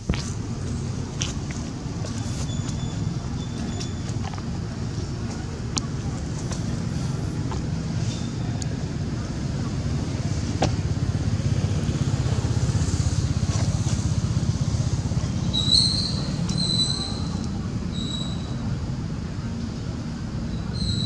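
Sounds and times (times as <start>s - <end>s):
low outdoor background rumble: 0.0s - 21.0s.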